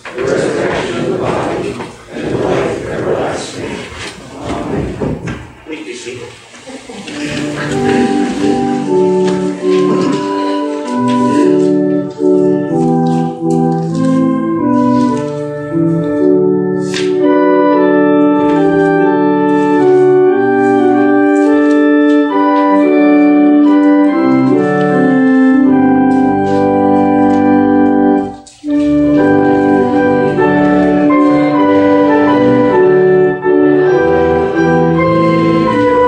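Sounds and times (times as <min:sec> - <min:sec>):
church organ playing hymn: 0:00.0 - 0:05.9, 0:07.0 - 0:36.0.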